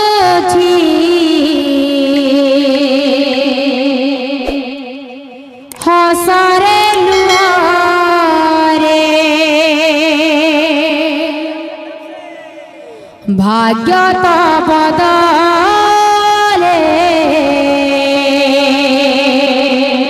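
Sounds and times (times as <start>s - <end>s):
woman singing into a microphone: 0.0s - 12.2s, 13.0s - 20.0s.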